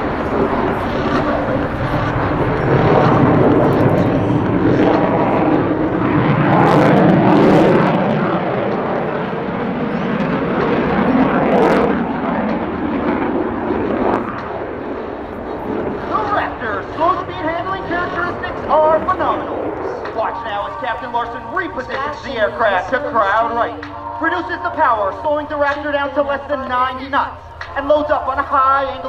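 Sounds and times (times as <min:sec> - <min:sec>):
jet engine noise overhead: 0:00.0 - 0:29.0.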